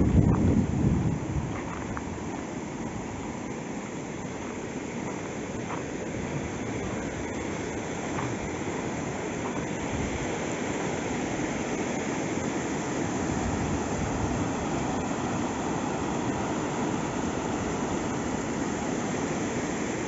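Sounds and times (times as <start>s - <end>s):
river rushing over rapids: 2.1s - 20.0s.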